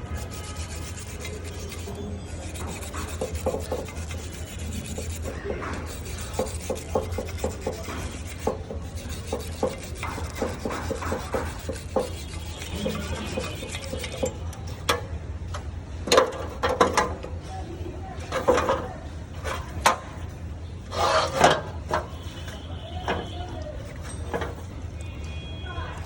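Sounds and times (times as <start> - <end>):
hand scraping engine metal: 0.0 - 25.5.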